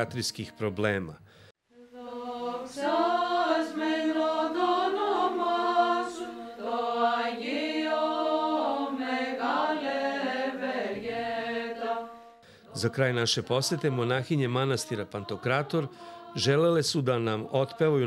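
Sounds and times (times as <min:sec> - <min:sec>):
women's choir chanting: 0:01.8 - 0:18.0.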